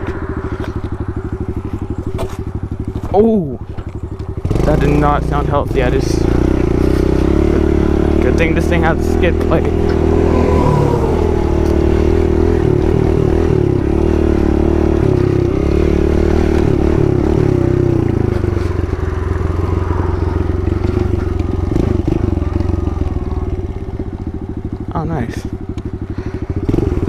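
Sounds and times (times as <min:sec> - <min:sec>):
small motorcycle engine running: 0:00.0 - 0:27.0.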